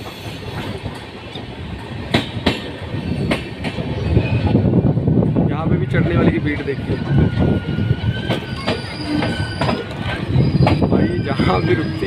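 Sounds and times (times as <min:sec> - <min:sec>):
train wheels clacking over rail joints: 0:00.0 - 0:04.6, 0:06.0 - 0:12.0
train rumble: 0:00.0 - 0:12.0.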